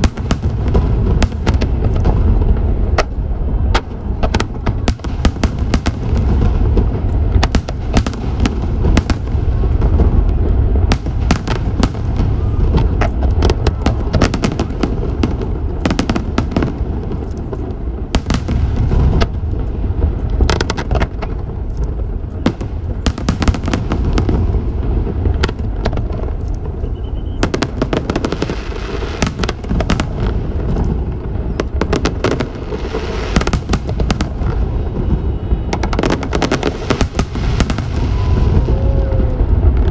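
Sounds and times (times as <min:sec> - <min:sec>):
fireworks bangs and crackles: 0:00.0 - 0:39.9
low rumble of bursting shells: 0:00.0 - 0:39.9.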